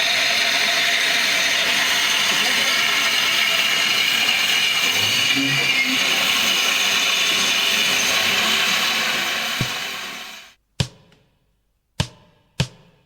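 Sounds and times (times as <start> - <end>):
steam hissing: 0.0 - 10.6.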